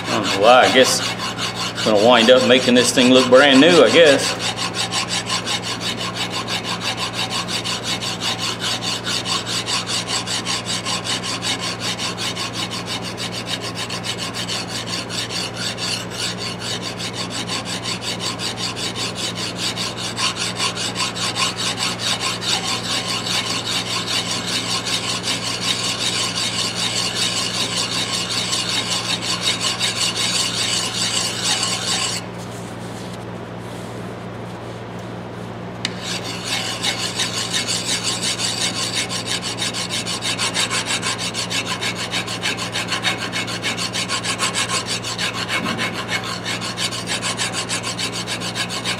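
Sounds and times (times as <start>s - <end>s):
file rasping on steel: 0.0s - 32.3s, 35.8s - 48.9s
steady low hum: 0.0s - 48.9s.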